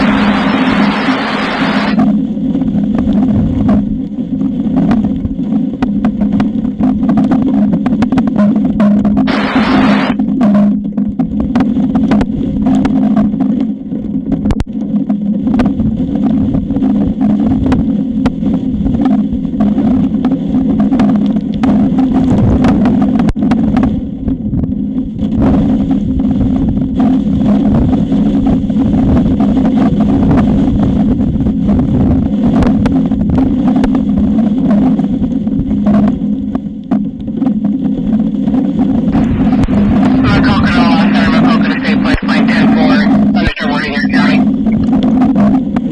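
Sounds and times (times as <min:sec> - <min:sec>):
wind buffeting microphone: 0:00.0 - 0:42.2, 0:44.4 - 0:45.9
steady low hum: 0:00.0 - 0:45.9.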